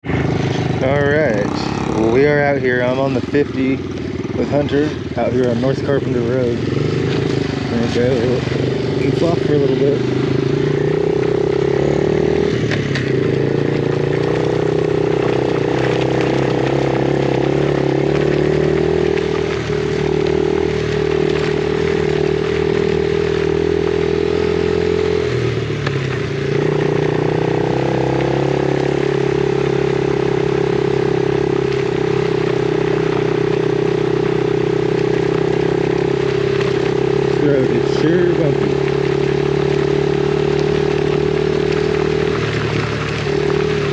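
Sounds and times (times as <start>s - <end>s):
small motorcycle engine running: 0.0s - 43.9s.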